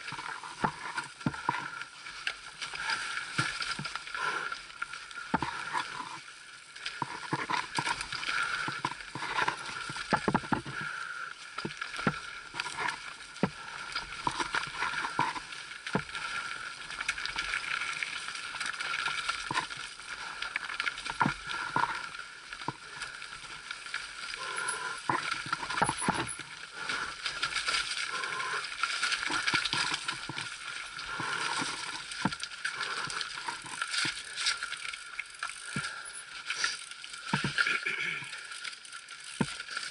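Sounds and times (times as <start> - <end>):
bike rattling on rocky trail: 0.0 - 39.9.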